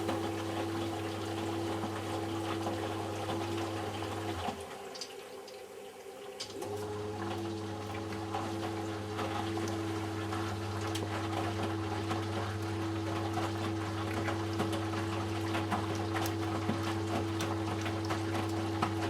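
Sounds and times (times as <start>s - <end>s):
washing machine motor humming: 0.0s - 19.0s
water sloshing in machine: 0.0s - 19.0s.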